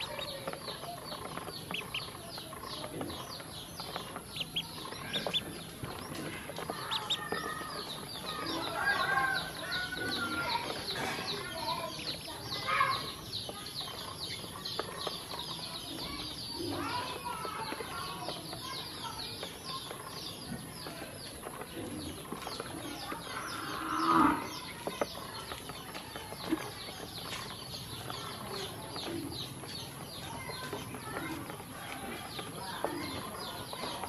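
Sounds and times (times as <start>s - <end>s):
ducklings peeping: 0.0s - 34.0s.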